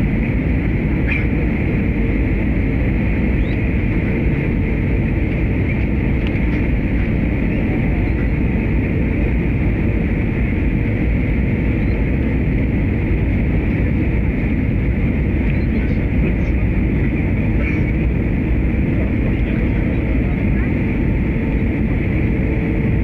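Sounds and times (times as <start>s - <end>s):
jet engines droning: 0.0s - 23.0s.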